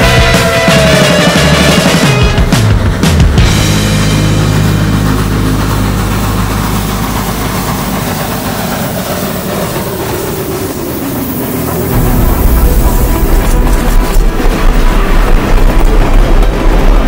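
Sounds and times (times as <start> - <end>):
train locomotive engine drone: 0.0 - 17.0.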